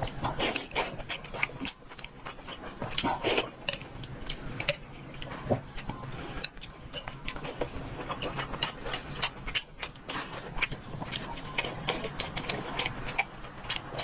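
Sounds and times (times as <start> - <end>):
chewing crunches: 0.0 - 14.0.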